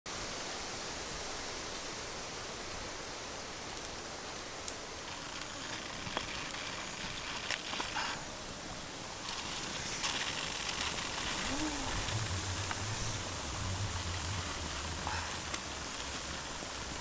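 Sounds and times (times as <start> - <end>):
stream water running: 0.1 - 17.0
wood fire crackling: 2.6 - 17.0.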